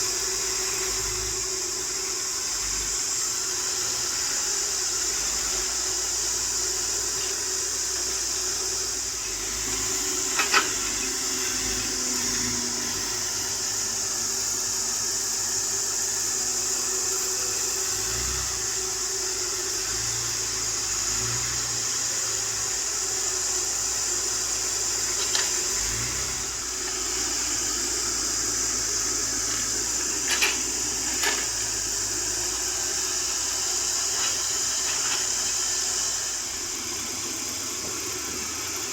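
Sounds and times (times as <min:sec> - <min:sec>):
excavator engine running: 0:00.0 - 0:38.9
high hiss: 0:00.0 - 0:38.9.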